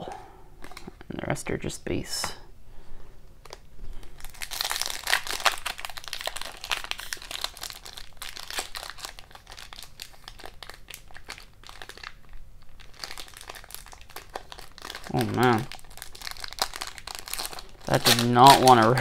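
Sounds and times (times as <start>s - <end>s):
foil wrapper crinkling: 0.6s - 1.0s, 3.4s - 19.0s.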